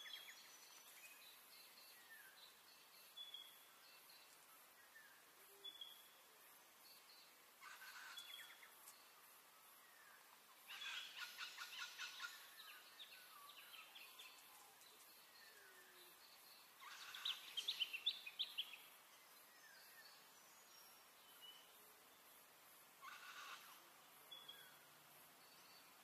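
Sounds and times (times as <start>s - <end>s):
faint background hiss: 0.0s - 26.0s.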